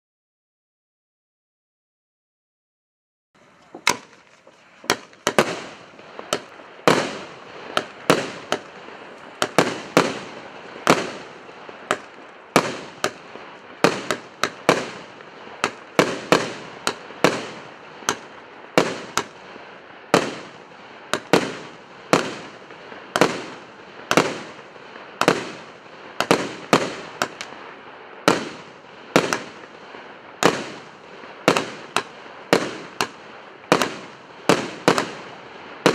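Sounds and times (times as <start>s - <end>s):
steady hiss: 3.4s - 35.9s
fireworks bangs with fizz: 3.7s - 35.9s.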